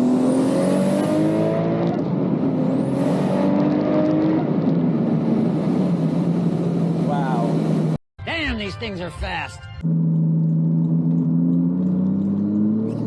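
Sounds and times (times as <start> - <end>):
car engine accelerating: 0.0 - 8.0, 9.8 - 13.0.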